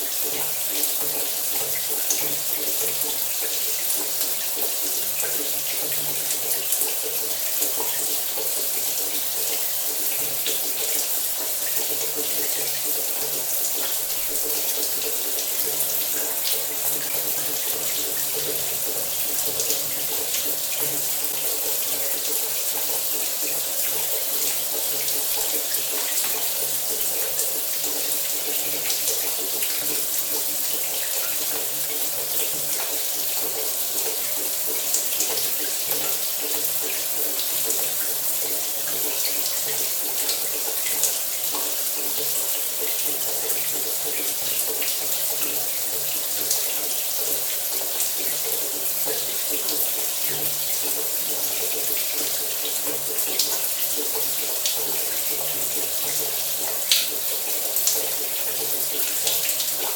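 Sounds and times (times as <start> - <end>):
shower running: 0.0 - 59.9.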